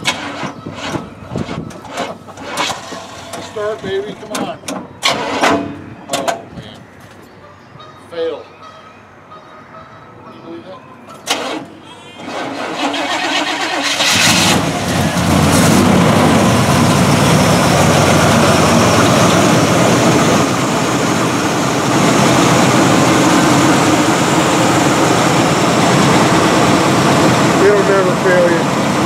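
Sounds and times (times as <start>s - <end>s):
car engine cranking and starting: 0.0s - 5.8s, 11.2s - 29.0s.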